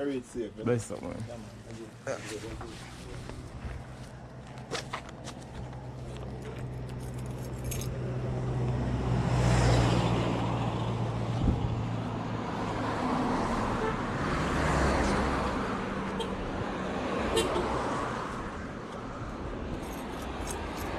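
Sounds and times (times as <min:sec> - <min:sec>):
road and wind noise: 0:00.0 - 0:20.9.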